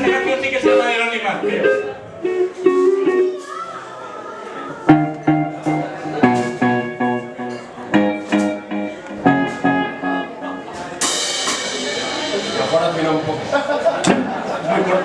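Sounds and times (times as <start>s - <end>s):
guitar plucking chords: 0.0s - 3.4s, 4.9s - 14.3s.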